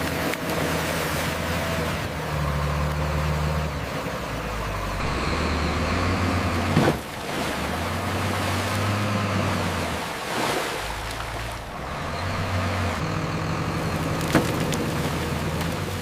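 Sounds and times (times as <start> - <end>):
heavy vehicle engine running: 0.0 - 10.2, 10.8 - 16.0.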